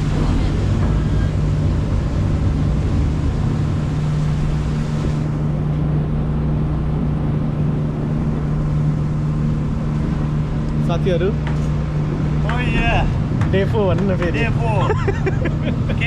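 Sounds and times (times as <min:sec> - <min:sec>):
boat engine humming: 0:00.0 - 0:16.0
hiss of water and wind: 0:00.0 - 0:16.0.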